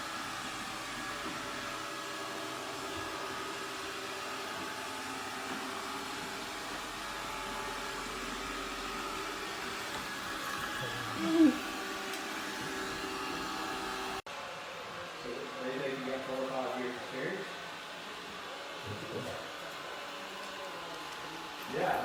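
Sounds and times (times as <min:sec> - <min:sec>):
robot vacuum motor hum: 0:00.1 - 0:14.2, 0:17.5 - 0:22.0.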